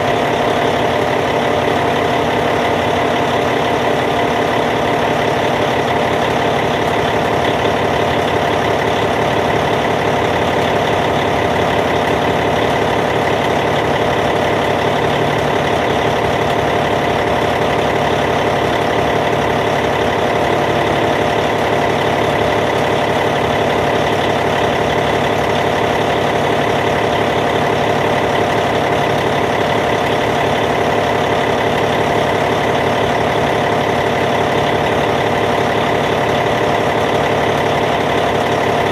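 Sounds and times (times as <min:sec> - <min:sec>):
bulldozer diesel engine idling: 0:00.0 - 0:38.9.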